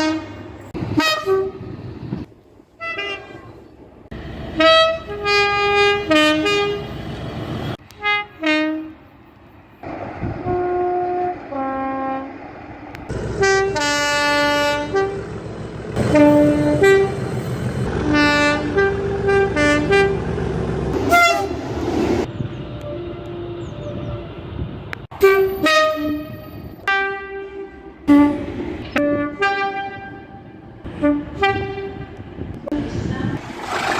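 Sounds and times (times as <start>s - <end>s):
two-tone locomotive horns: 0.0s - 1.8s, 2.8s - 3.6s, 4.4s - 9.2s, 10.4s - 12.5s, 13.1s - 21.7s, 22.5s - 33.0s
locomotive rumble: 0.0s - 33.9s.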